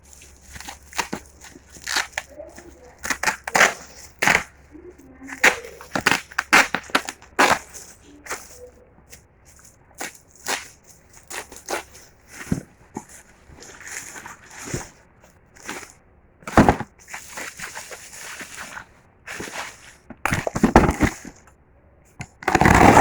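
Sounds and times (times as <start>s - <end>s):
packaging being opened by hand: 0.0s - 15.0s, 15.6s - 21.5s, 22.2s - 23.0s.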